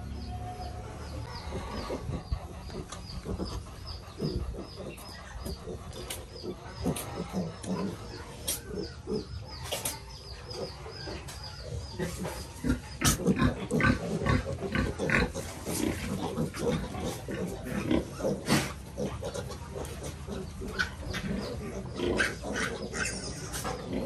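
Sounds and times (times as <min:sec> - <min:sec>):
pigs grunting: 0:00.0 - 0:24.0
piglets squealing: 0:00.3 - 0:24.0.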